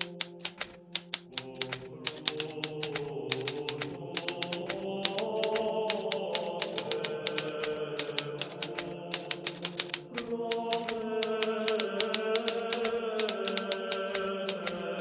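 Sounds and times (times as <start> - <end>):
typewriter keystroke clacks: 0.0 - 15.0.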